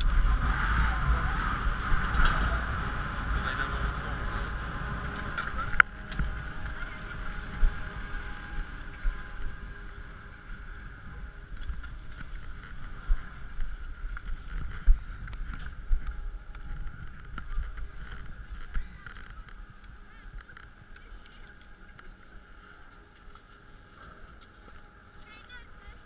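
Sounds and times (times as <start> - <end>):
skis gliding over packed snow: 0.0 - 26.0.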